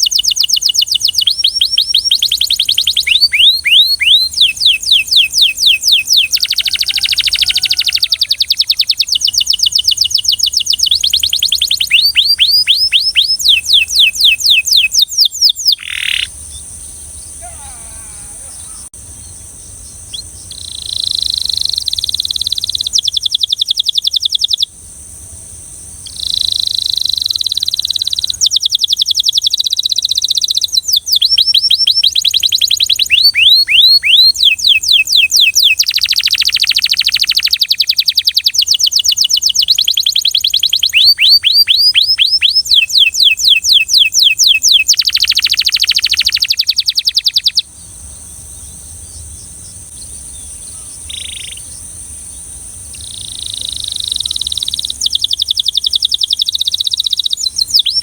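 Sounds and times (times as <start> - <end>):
canary singing rapid trills: 0.0 - 24.7, 26.0 - 58.0.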